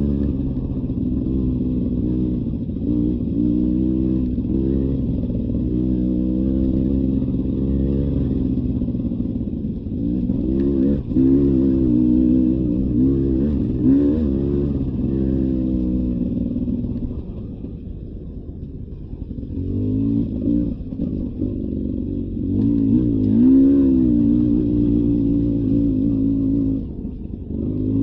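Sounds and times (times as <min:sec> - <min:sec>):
dirt bike engine revving: 0:00.0 - 0:17.2, 0:19.6 - 0:28.0.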